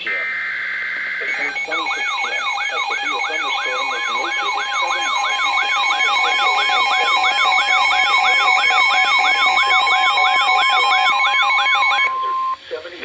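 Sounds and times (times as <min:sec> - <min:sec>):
electronic siren sweep: 0:00.1 - 0:12.6
pulsing tone: 0:01.2 - 0:12.6
steady high beep: 0:01.2 - 0:12.6.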